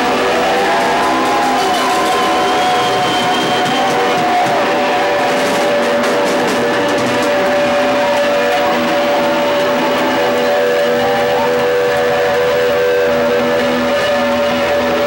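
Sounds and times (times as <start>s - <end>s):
live band playing loud: 0.0s - 15.0s
long held guitar notes: 0.0s - 15.0s.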